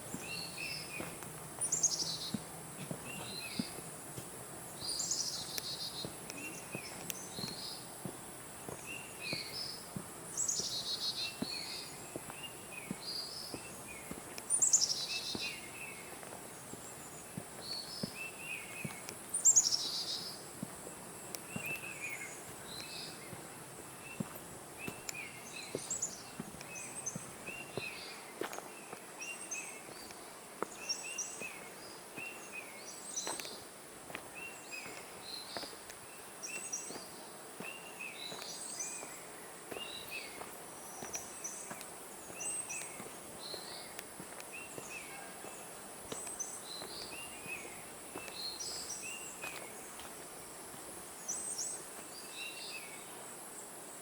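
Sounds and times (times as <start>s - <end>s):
birds chirping: 0.0s - 53.8s
footsteps on forest path: 0.0s - 54.0s.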